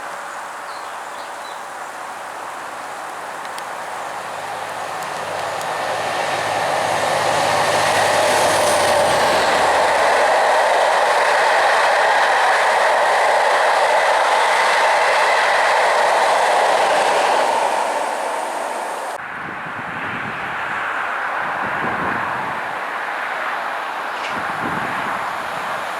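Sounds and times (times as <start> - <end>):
train wheels rushing past: 1.8 - 19.2, 22.0 - 25.9.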